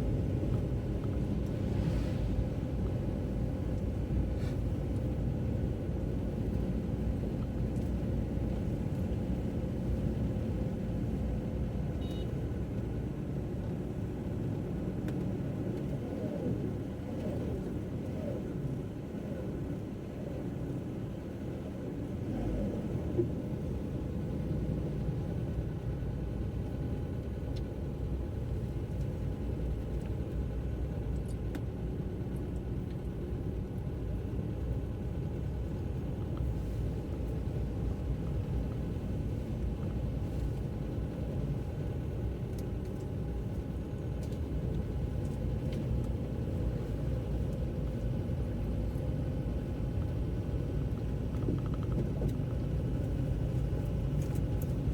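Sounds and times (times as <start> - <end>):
car driving rumble: 0.0 - 13.1, 13.7 - 54.9.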